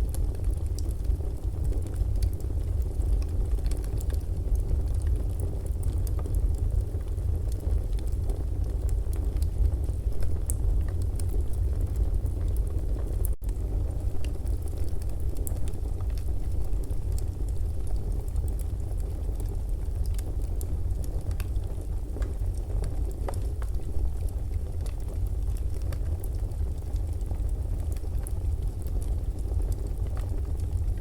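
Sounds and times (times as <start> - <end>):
fireplace crackling and popping: 0.0 - 31.0.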